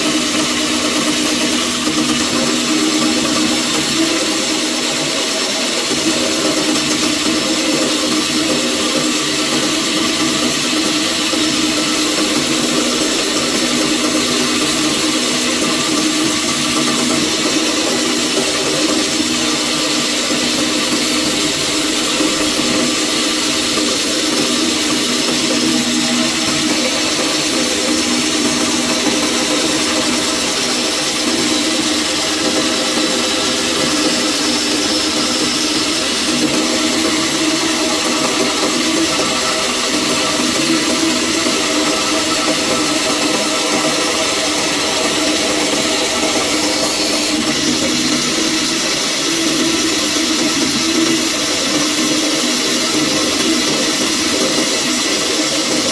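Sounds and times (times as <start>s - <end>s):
bandsaw cutting wood: 8.8s - 55.9s.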